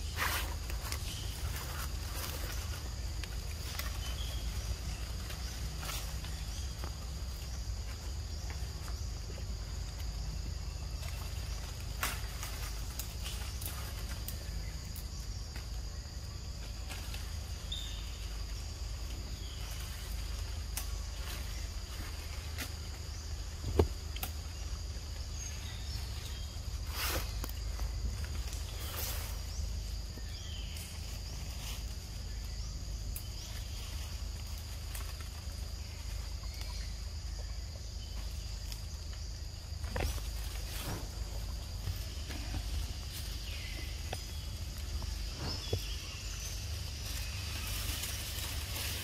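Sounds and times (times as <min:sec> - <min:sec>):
high insect drone: 0:00.0 - 0:49.0
monkeys handling fruit among leaves: 0:00.0 - 0:49.0.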